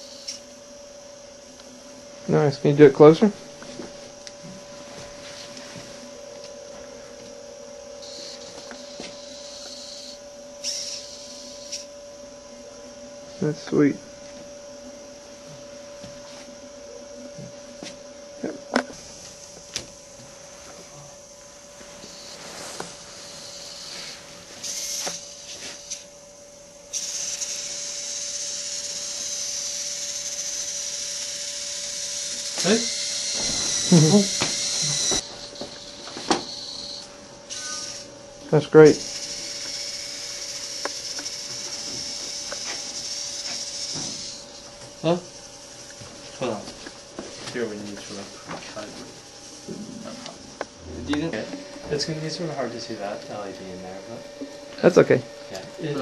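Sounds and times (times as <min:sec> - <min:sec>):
robot drive motors whining: 0:00.0 - 0:56.0
steady hum: 0:00.0 - 0:56.0.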